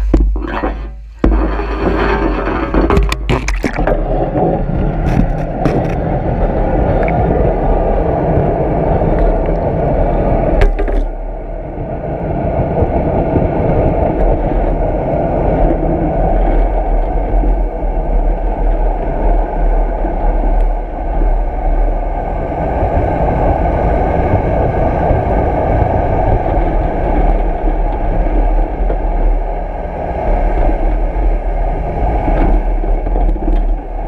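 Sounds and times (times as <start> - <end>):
muffled underwater water rushing: 0.0 - 34.0.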